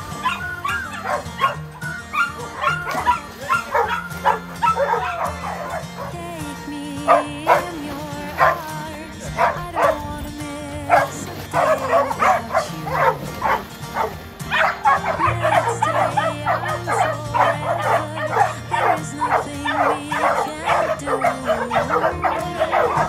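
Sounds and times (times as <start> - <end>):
dogs barking excitedly: 0.0 - 10.1, 10.8 - 23.0
background music with low notes: 0.0 - 23.0.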